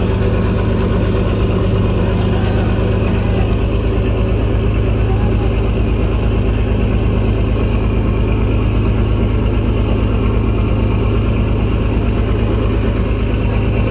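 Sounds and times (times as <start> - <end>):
engine idling: 0.0 - 13.9.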